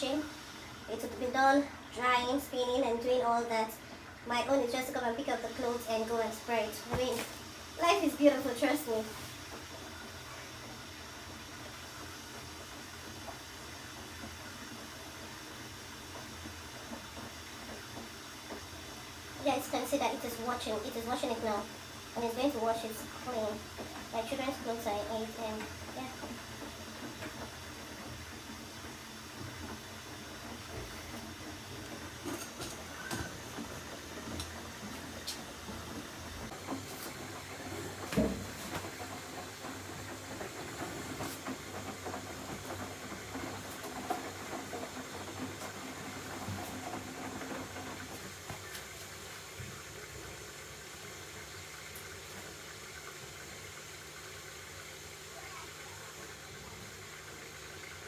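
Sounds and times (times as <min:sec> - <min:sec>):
washing machine churning water: 0:00.0 - 0:58.0.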